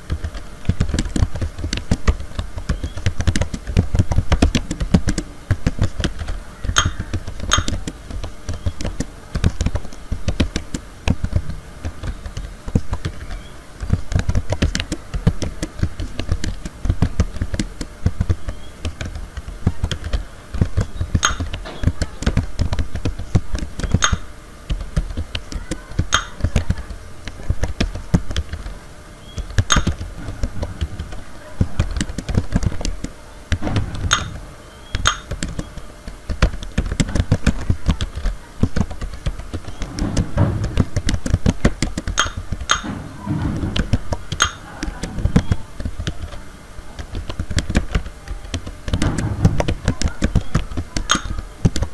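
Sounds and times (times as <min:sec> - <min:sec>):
keyboard typing clicks: 0:00.0 - 0:46.4, 0:47.0 - 0:51.9.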